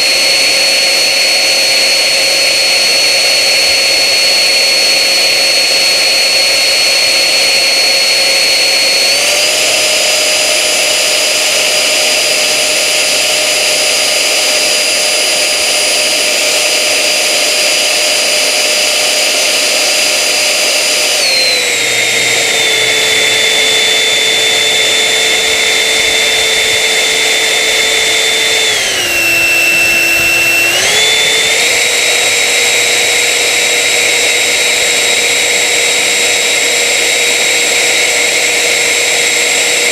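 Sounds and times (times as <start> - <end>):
electric fan motors whining: 0.0 - 39.9.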